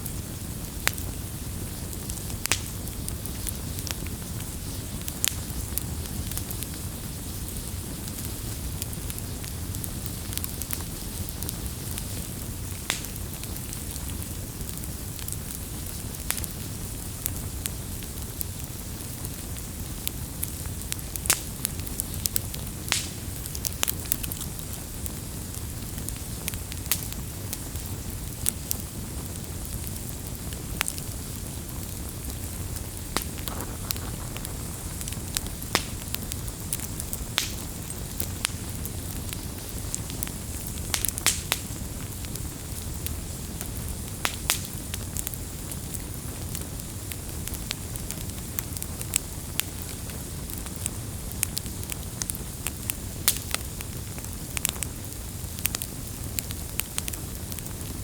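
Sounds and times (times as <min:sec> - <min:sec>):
burning wood crackling and popping: 0:00.0 - 0:58.0
campfire flame rushing: 0:00.0 - 0:58.0.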